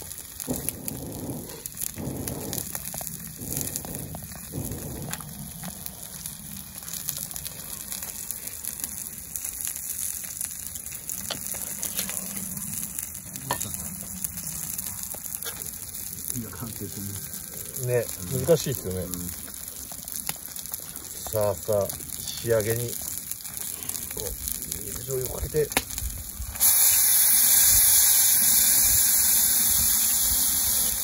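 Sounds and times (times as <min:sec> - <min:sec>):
garlic frying in oil: 0:00.0 - 0:31.0
steak sizzling on griddle: 0:00.0 - 0:31.0.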